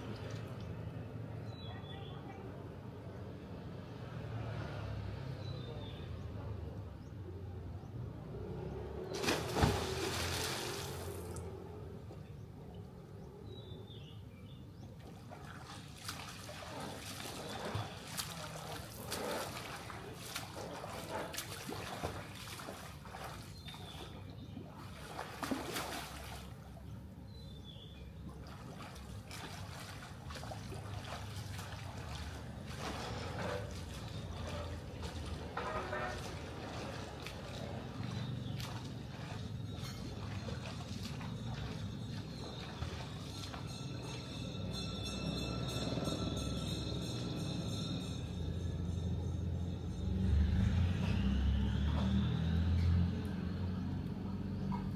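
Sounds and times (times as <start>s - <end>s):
pool water splashing: 0.0s - 1.4s, 8.3s - 13.0s, 14.6s - 54.9s.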